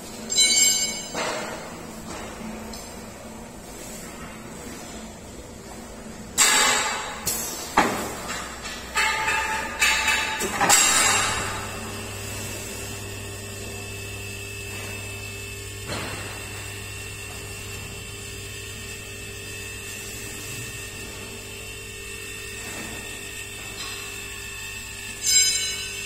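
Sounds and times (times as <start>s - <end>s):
hydraulic pump electric hum: 0.0s - 26.0s.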